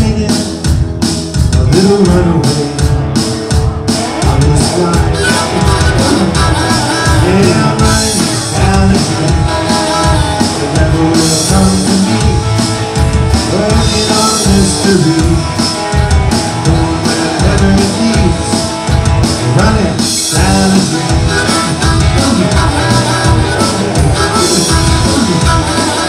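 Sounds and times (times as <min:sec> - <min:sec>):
drum kit: 0:00.0 - 0:26.0
electric guitars: 0:00.0 - 0:26.0
lead vocals singing: 0:01.6 - 0:15.6, 0:16.6 - 0:18.7, 0:19.4 - 0:26.0.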